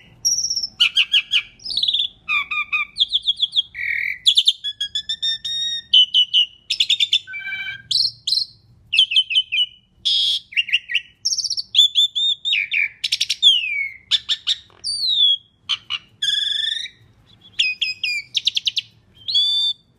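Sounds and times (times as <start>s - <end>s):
starling singing: 0.0s - 19.9s.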